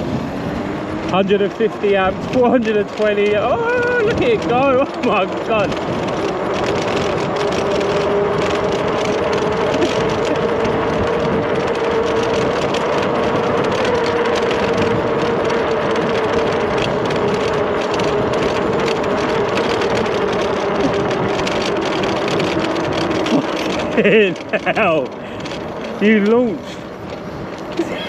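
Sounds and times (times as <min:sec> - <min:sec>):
electric bike motor whining: 0:00.0 - 0:28.0
wind and road noise: 0:00.0 - 0:28.0.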